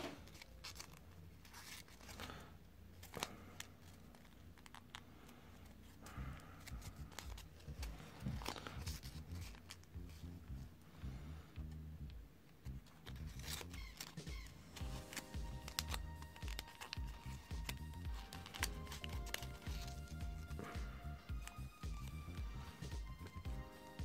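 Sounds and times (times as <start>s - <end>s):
paper rustling and crinkling: 0.0s - 10.3s, 12.9s - 23.3s.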